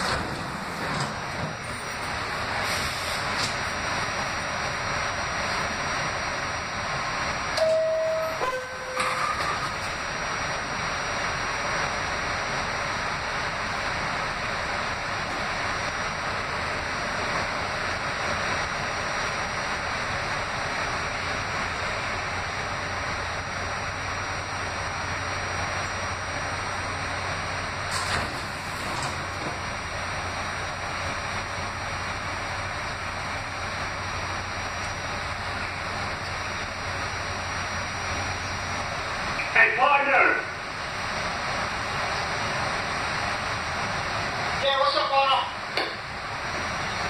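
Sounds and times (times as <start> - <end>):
subway rail noise: 0.0 - 47.0.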